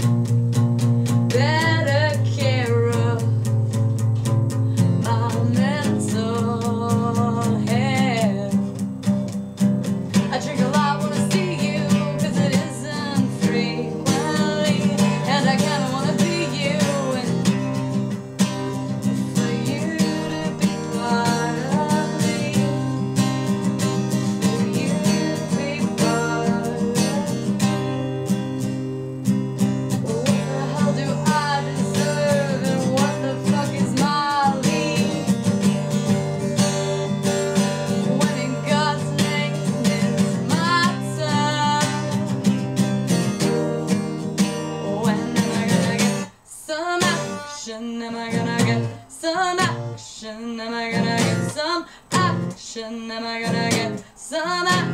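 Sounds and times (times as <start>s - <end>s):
acoustic guitar strumming: 0.0s - 54.9s
woman singing: 1.0s - 54.9s.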